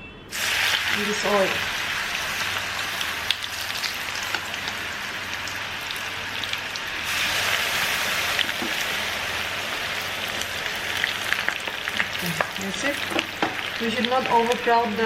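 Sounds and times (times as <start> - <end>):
deep-frying in hot oil: 0.3 - 15.0.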